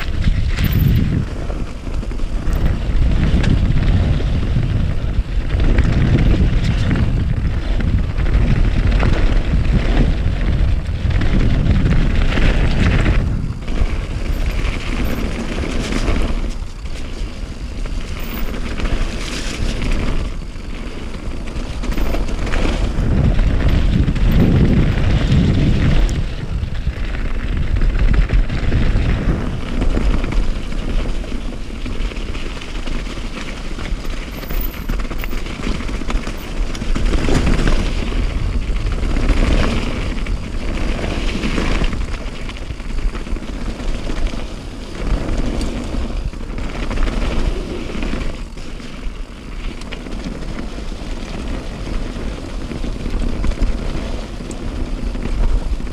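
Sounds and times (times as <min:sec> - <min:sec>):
vehicle and road noise: 0:00.0 - 0:55.9
wind buffeting microphone: 0:00.0 - 0:55.9.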